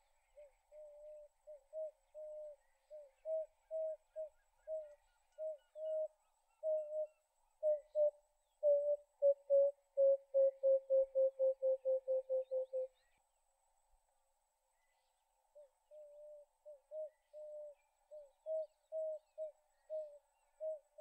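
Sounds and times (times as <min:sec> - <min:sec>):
dove cooing: 0:00.0 - 0:12.9, 0:15.6 - 0:21.0.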